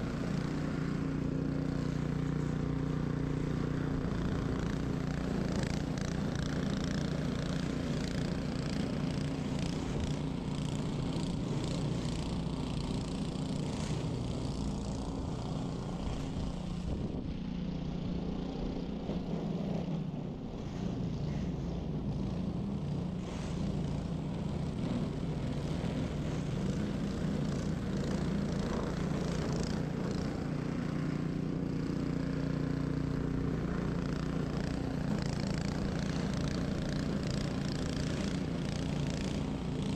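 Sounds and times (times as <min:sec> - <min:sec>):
snow blower engine running: 0:00.0 - 0:39.9.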